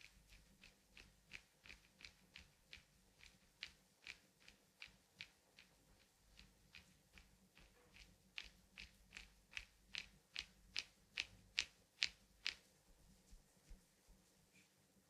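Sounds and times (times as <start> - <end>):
hands rubbing a bare foot: 0.0 - 14.9.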